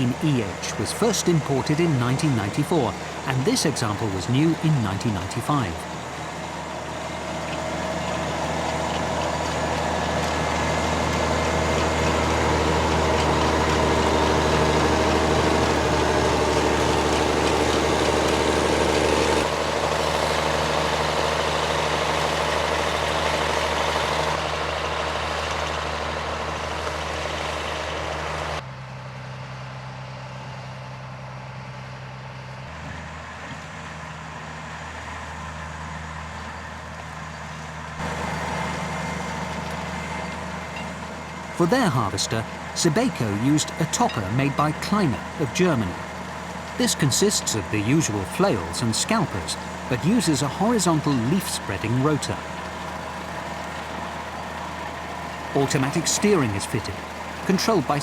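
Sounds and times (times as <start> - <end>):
diesel engine humming: 0.0 - 58.0
harvester machinery running: 0.0 - 58.0.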